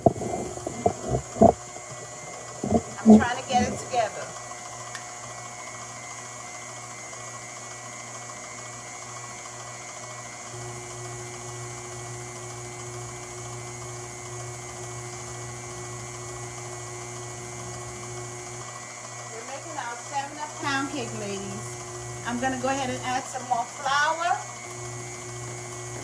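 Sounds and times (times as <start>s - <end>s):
stand mixer motor humming: 0.0s - 26.0s.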